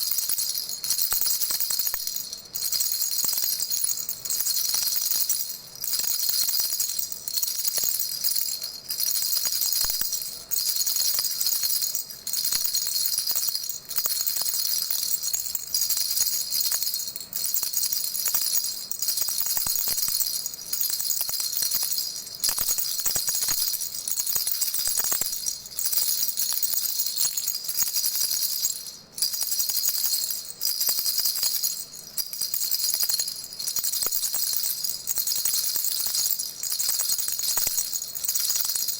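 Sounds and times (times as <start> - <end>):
baby rattle jingling: 0.0 - 38.9.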